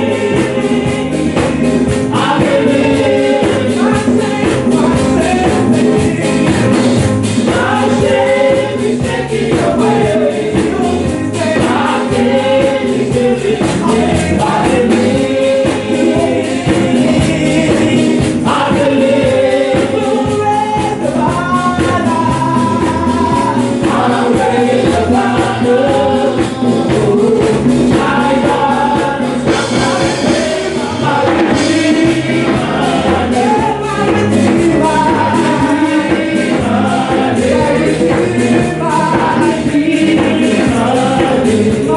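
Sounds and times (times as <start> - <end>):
choir singing gospel: 0.0 - 41.9
instrumental accompaniment with beat: 0.0 - 41.9.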